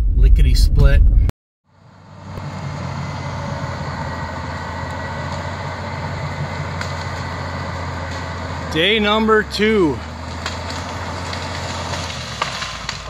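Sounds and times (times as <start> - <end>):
bulldozer diesel engine droning: 1.7 - 13.0.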